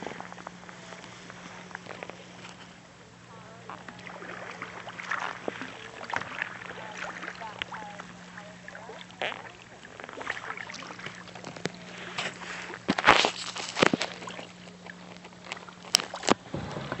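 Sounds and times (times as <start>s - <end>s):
paddles splashing in water: 0.0s - 17.0s.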